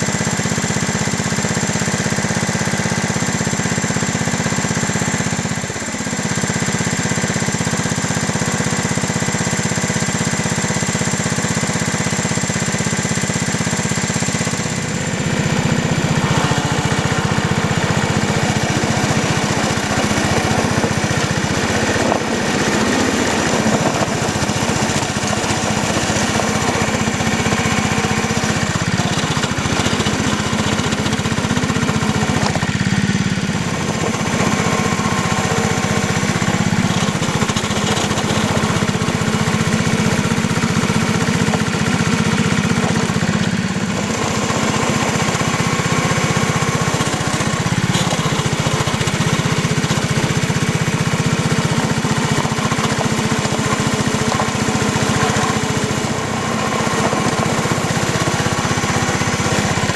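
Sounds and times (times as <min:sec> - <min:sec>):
small diesel engine running: 0:00.0 - 0:59.9.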